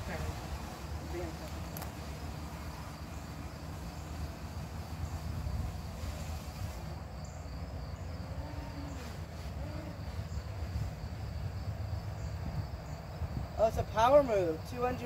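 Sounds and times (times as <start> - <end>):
insects buzzing: 0.0 - 15.0
low continuous rumble: 0.0 - 15.0.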